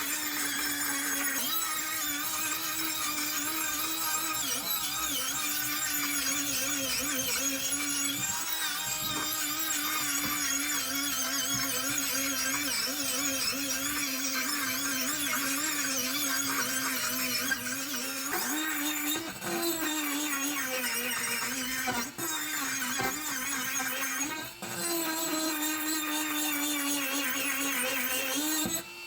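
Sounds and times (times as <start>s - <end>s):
small power tool whining: 0.0s - 29.0s.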